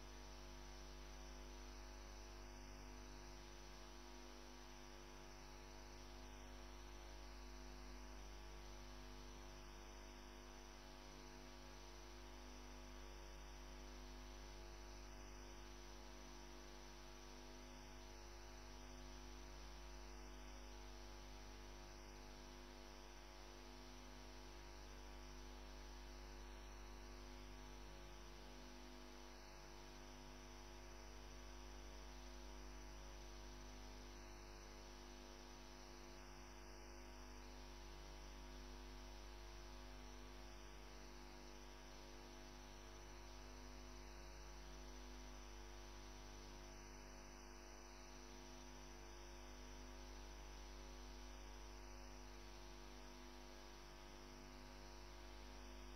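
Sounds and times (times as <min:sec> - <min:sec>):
electrical mains hum with hiss: 0:00.0 - 0:55.9.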